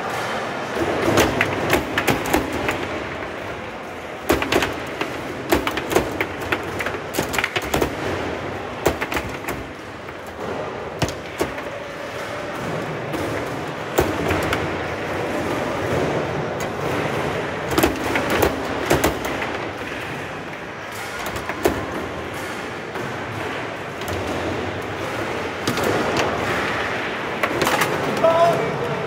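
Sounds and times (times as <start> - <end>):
background hubbub: 0.0 - 29.0.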